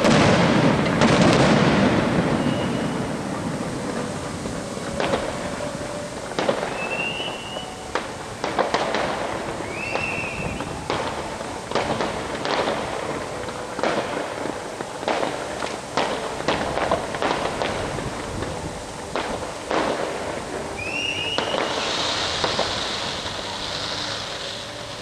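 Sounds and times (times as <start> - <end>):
firework shells banging: 0.0 - 25.0
fireworks crackling: 0.0 - 25.0
high firework whistles: 0.0 - 25.0.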